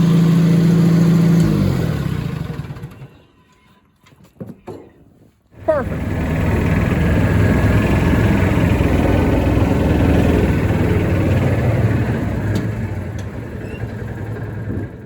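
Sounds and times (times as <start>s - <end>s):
tractor engine running: 0.0s - 3.1s, 5.6s - 15.0s.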